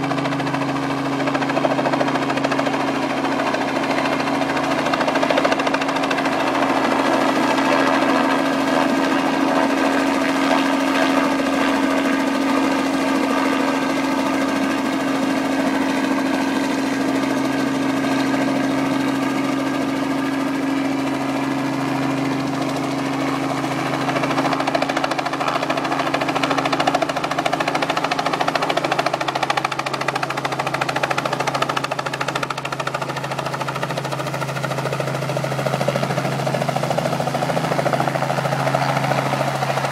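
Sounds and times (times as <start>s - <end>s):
helicopter rotors chopping: 0.0s - 39.9s
turbine engine hum: 0.0s - 39.9s.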